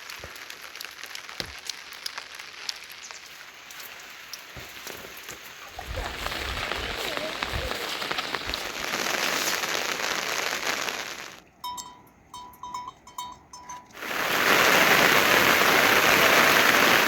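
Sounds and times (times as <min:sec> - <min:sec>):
heavy rain falling: 0:00.0 - 0:11.4, 0:14.0 - 0:17.0.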